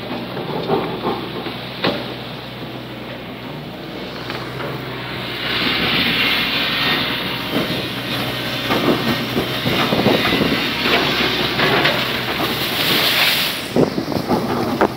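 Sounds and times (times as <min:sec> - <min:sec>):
diesel engine running: 0:00.0 - 0:14.9
water churning and splashing: 0:00.0 - 0:14.9.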